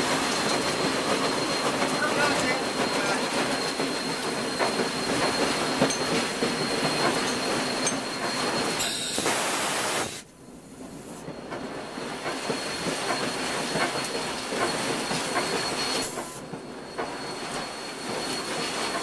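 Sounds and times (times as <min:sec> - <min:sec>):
railroad cars rumbling: 0:00.0 - 0:19.0
wheel squeal: 0:00.1 - 0:09.4, 0:12.3 - 0:19.0.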